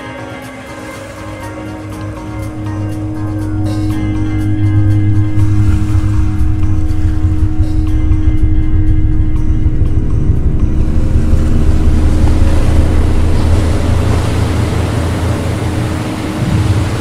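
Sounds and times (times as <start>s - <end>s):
ocean water washing and splashing: 0.0s - 17.0s
deep steady rumble: 1.8s - 17.0s.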